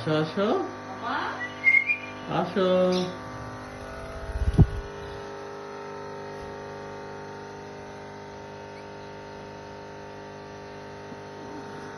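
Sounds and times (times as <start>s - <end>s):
steady hum of held tones: 0.0s - 11.9s.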